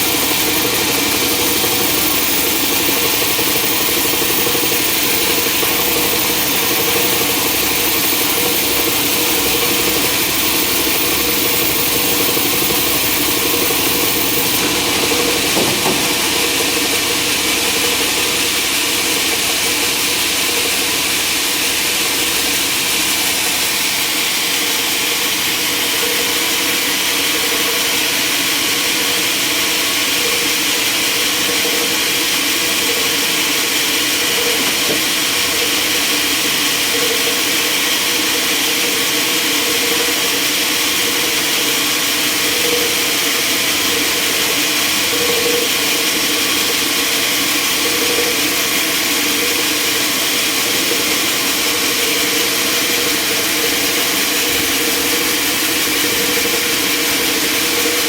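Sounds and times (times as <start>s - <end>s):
sawmill machinery hum: 0.0s - 58.0s.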